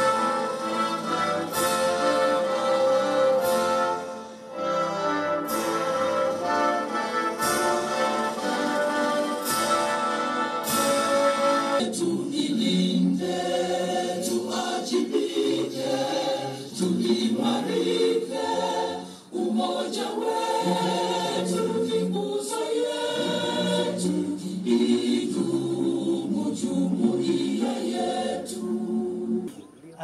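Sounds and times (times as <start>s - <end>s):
choir singing: 0.0s - 29.8s.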